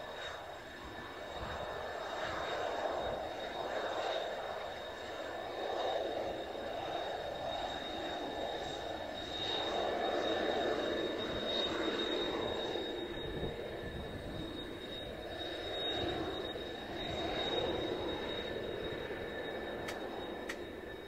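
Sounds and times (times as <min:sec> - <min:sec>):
jet engines whining and roaring: 0:00.0 - 0:21.0.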